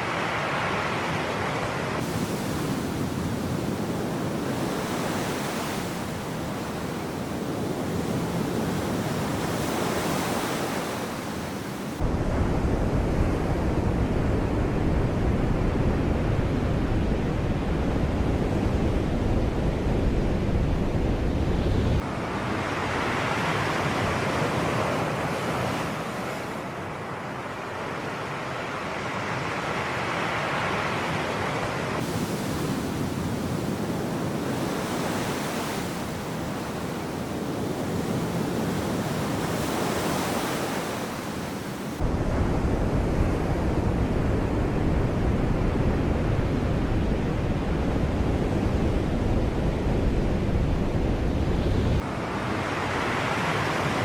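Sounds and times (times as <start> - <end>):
sea waves: 0.0 - 12.7, 21.4 - 54.0
wind rumble on microphone: 0.6 - 26.5, 31.3 - 54.0.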